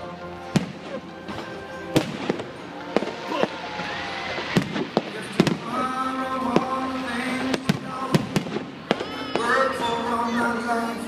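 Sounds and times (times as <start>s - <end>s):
music playing: 0.0s - 11.0s
firework bangs: 0.4s - 10.9s.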